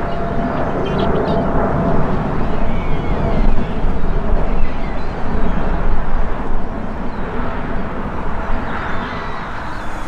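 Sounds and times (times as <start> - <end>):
jet engine roar: 0.0 - 10.0
wind buffeting microphone: 0.0 - 10.0.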